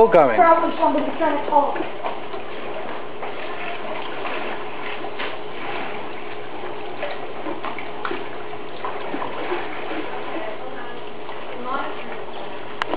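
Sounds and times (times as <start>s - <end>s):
pool water running and splashing: 0.0s - 12.9s
small splashes: 0.4s - 12.9s.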